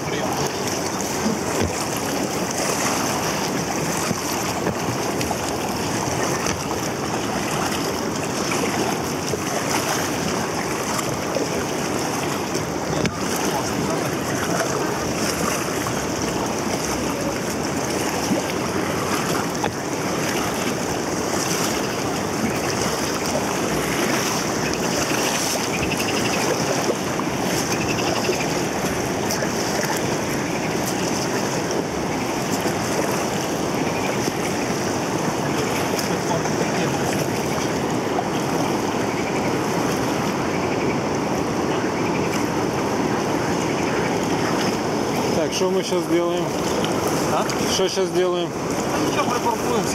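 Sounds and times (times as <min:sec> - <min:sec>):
river water rushing: 0:00.0 - 0:49.9.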